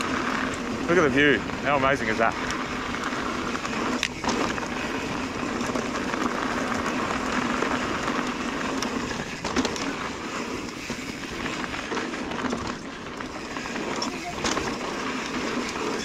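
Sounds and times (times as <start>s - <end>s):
bike tyres crunching on gravel: 0.0s - 16.0s.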